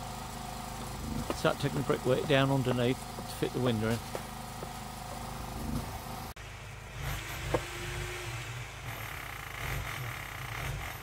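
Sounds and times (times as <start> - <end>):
low engine-like rumble: 0.0 - 9.0.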